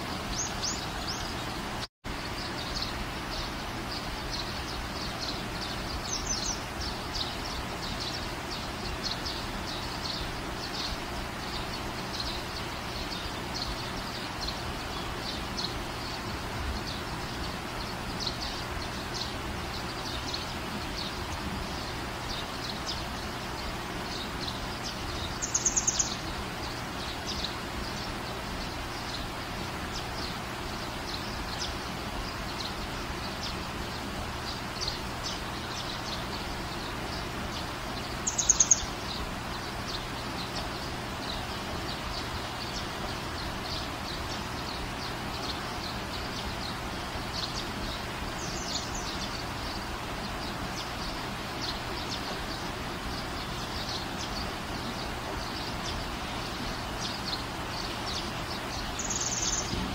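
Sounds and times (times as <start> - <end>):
small bird chirping: 0.0 - 1.6, 2.2 - 59.9
steady background hiss: 0.0 - 59.9.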